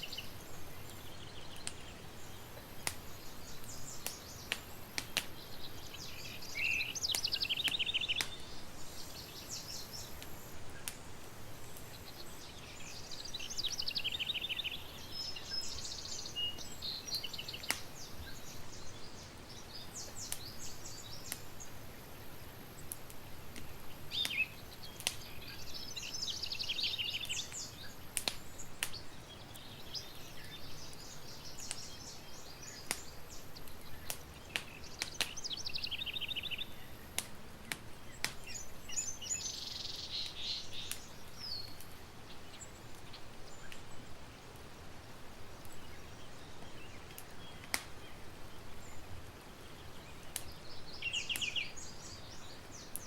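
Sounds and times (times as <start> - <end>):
birds chirping: 0.0 - 22.9, 23.5 - 37.2, 37.8 - 53.0
campfire crackling: 0.0 - 53.0.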